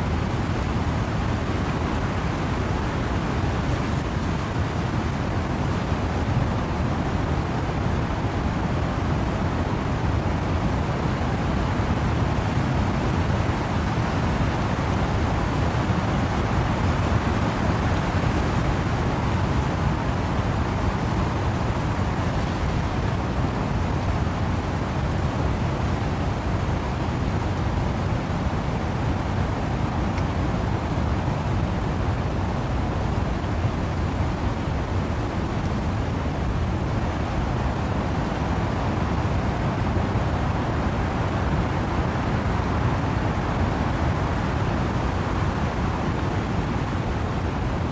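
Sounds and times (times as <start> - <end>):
wind and rain in trees: 0.0 - 47.9.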